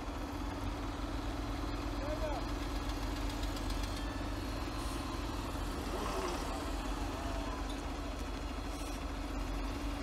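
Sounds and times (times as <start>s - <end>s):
diesel truck engine humming: 0.0s - 10.0s.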